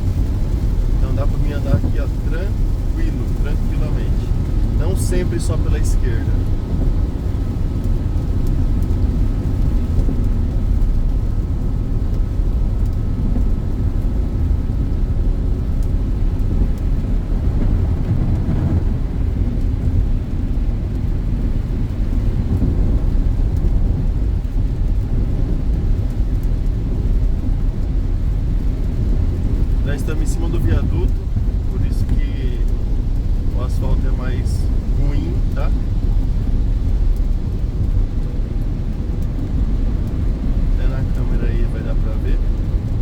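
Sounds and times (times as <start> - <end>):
rain on car: 0.0 - 43.0
tyre and road noise: 0.0 - 43.0.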